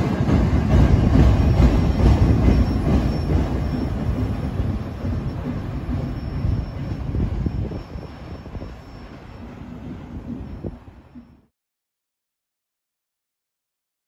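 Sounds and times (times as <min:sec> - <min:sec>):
freight train rumbling past: 0:00.0 - 0:11.5.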